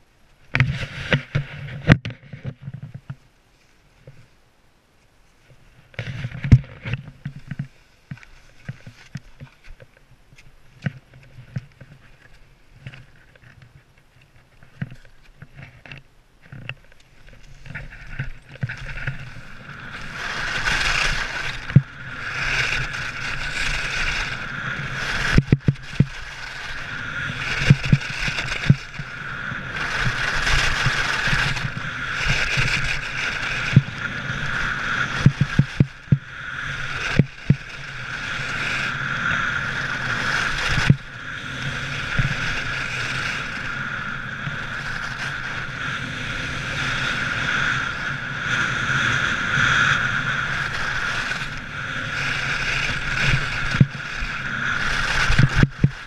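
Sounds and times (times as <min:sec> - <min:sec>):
skis scraping over snow: 0:00.5 - 0:04.4, 0:05.3 - 0:56.0.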